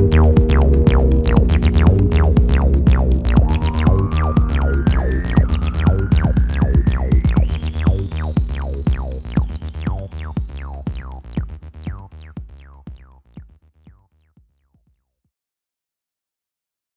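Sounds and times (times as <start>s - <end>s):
background music with steady beat: 0.0s - 14.5s.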